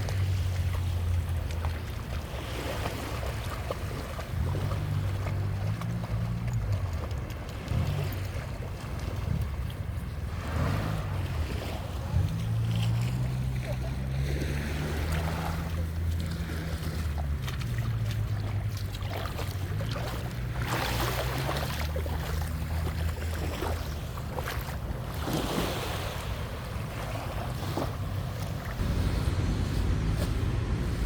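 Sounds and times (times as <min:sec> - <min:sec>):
small waves washing ashore: 0:00.0 - 0:31.0
low motor hum: 0:03.1 - 0:25.2, 0:26.2 - 0:31.0.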